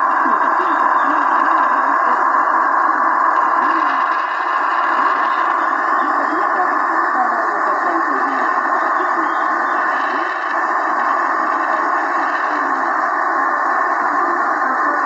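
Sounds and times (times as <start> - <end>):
faint radio voice: 0.0 - 15.0
radio static and hiss: 0.0 - 15.0.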